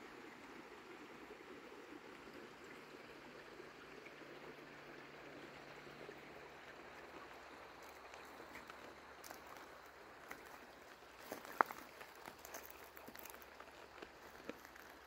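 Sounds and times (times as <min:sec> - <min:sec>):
rush of running water: 0:00.0 - 0:15.0.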